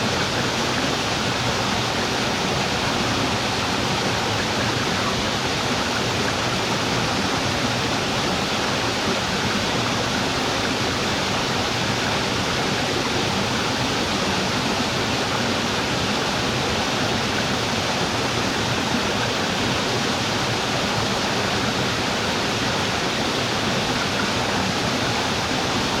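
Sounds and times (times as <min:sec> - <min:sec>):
waterfall splashing: 0:00.0 - 0:26.0.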